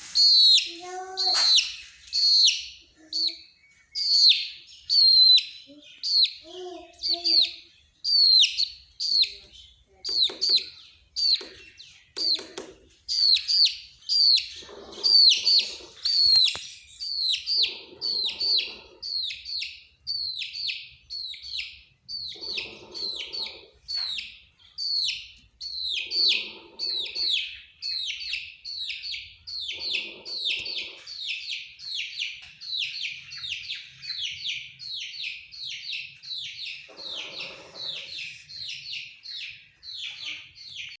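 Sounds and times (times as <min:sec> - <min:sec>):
chicks peeping: 0:00.0 - 0:41.0.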